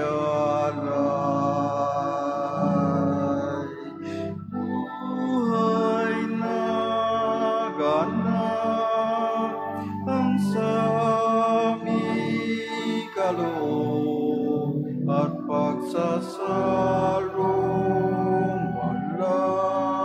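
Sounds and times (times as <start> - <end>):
church choir singing a hymn: 0.0 - 4.2, 4.8 - 20.0
instrumental accompaniment: 0.0 - 20.0.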